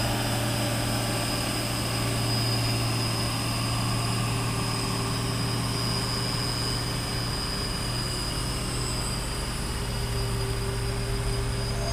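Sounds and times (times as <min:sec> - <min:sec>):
truck diesel engine droning: 0:00.0 - 0:11.9.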